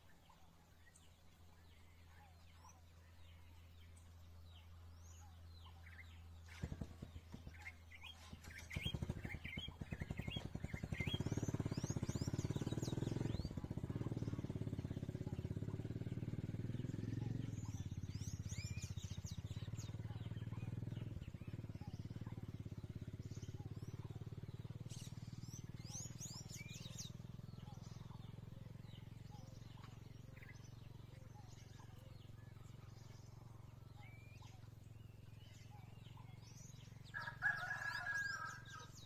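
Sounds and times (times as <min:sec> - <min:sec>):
birds chirping: 0:00.0 - 0:39.0
small engine running: 0:05.8 - 0:39.0.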